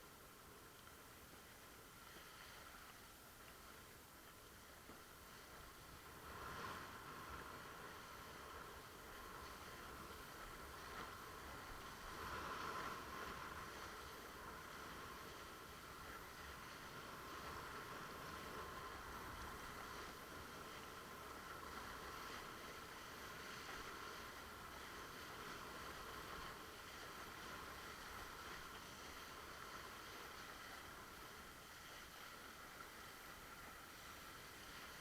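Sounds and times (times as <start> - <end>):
rushing water: 0.0 - 35.0
wind: 0.0 - 35.0.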